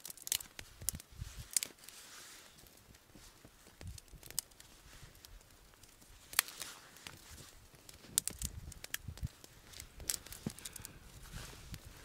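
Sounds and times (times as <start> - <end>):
twigs snapping: 0.0 - 2.8, 3.4 - 11.0.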